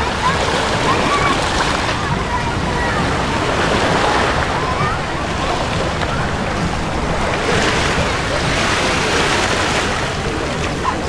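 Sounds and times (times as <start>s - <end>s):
faint distant voices: 0.0s - 11.0s
surf washing on beach: 0.0s - 11.0s.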